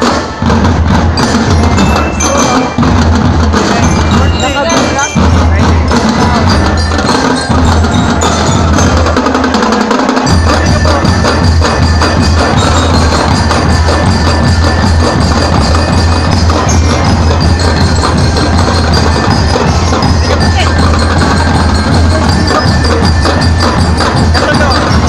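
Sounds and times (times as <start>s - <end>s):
fast steady drum beats: 0.0s - 25.0s
glockenspiels playing melody: 1.1s - 9.2s, 10.3s - 25.0s.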